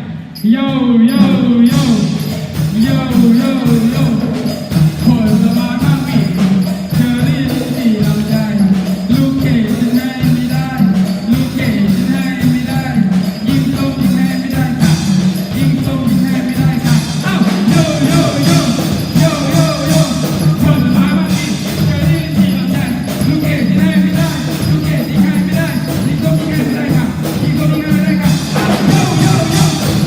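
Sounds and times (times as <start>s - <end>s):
upbeat music with jingling percussion: 0.0s - 30.0s.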